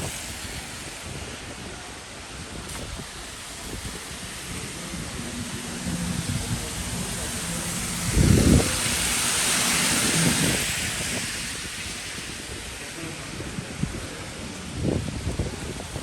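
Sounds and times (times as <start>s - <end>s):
car tyres hissing on wet road: 0.0s - 16.0s
wet street noise: 0.0s - 16.0s
car passing rumble: 2.7s - 16.0s.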